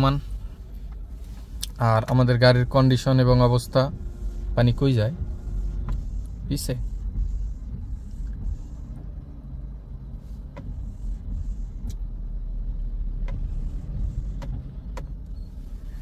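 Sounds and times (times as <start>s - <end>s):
car low steady rumble: 0.0s - 16.0s.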